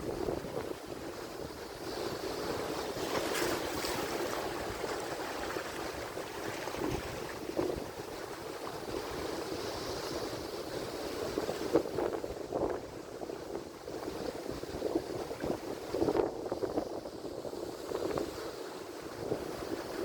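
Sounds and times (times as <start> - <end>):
waves breaking on the shore: 0.0 - 20.0
wind buffeting the microphone: 0.0 - 20.0.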